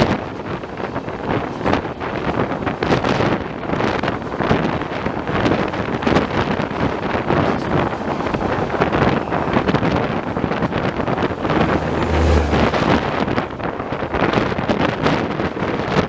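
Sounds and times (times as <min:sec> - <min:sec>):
deep rumble: 0:00.0 - 0:16.0
moving passenger train: 0:00.0 - 0:16.0
wheels clattering on rail: 0:00.0 - 0:16.0
wind buffeting microphone: 0:00.0 - 0:16.0.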